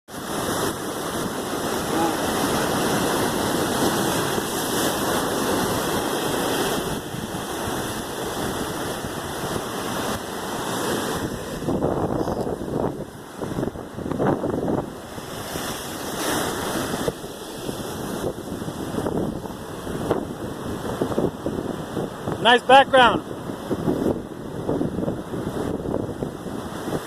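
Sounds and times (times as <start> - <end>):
waves breaking on beach: 0.1 - 27.0.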